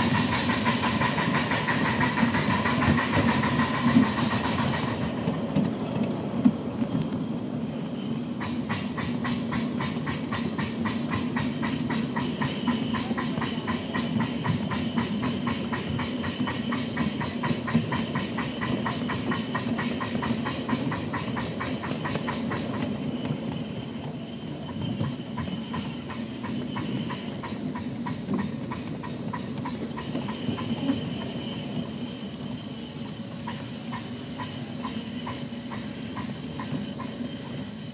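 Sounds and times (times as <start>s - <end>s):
steam locomotive chuffing: 0.0s - 37.9s
wheels rumbling on track: 0.0s - 37.9s.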